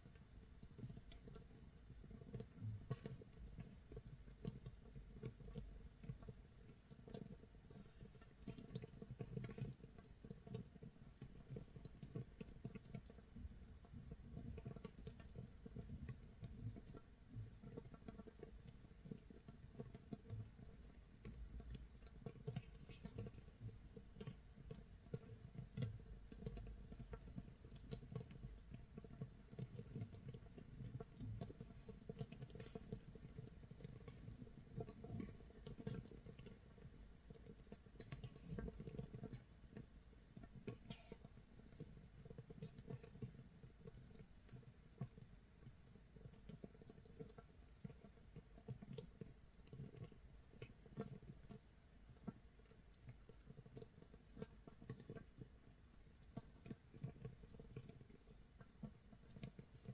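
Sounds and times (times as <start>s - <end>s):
gas bubbles popping crackle: 0.0s - 59.9s.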